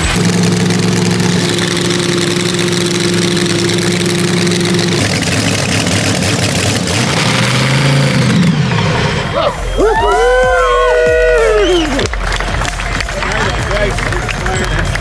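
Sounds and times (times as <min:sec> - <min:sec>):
drag-race engine idling and revving: 0:00.0 - 0:09.8, 0:11.9 - 0:15.0.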